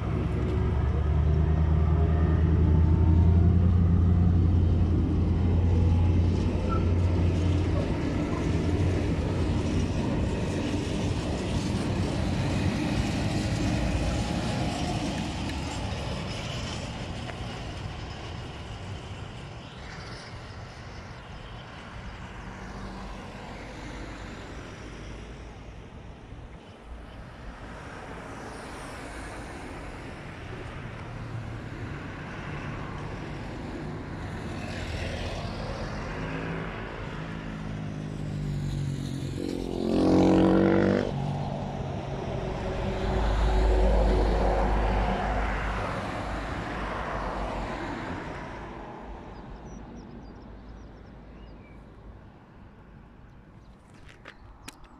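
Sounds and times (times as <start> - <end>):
cars passing close by: 0.0 - 54.9.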